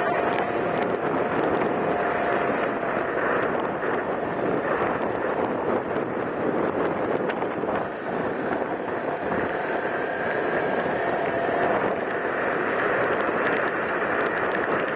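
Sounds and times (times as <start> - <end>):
motorcycle engine and tyres: 0.0 - 14.9
wind buffeting microphone: 0.0 - 14.9.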